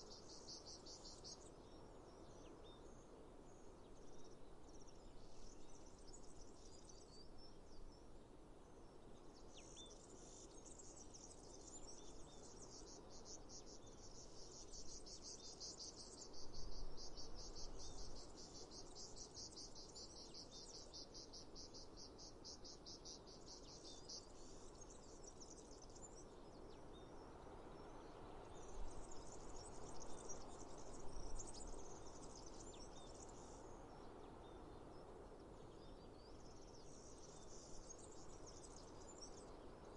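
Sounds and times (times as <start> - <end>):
faint outdoor hiss: 0.0 - 39.9.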